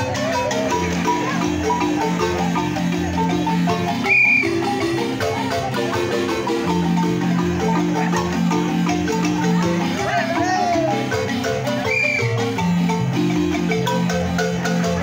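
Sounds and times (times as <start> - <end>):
marimba music: 0.0 - 15.0.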